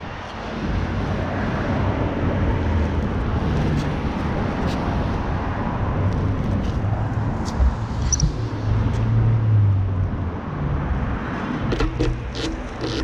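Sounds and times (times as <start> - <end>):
wind on microphone: 0.0 - 12.4
wet road rumble: 0.0 - 13.0.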